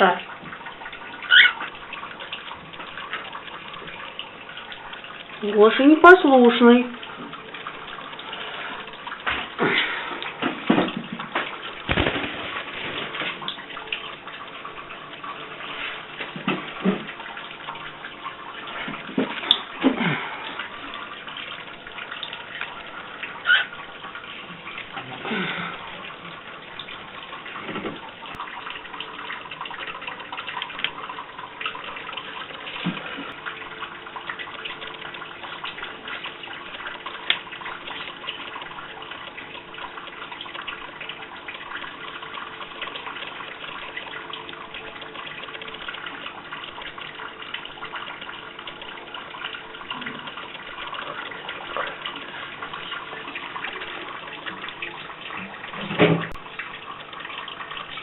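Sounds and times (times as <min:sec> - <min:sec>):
water running from a tap: 0:00.0 - 0:58.0
water splashes: 0:00.0 - 0:58.0.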